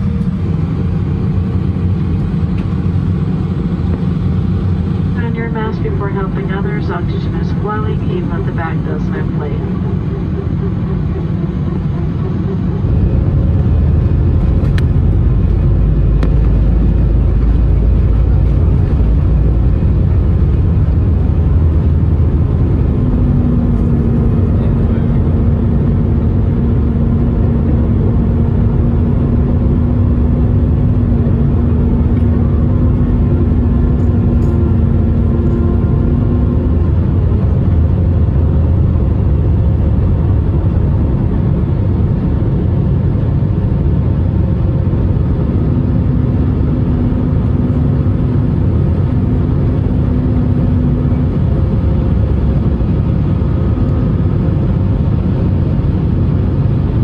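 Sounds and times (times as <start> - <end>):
jet engines roaring: 0.0 - 57.0
low steady hum: 0.0 - 57.0.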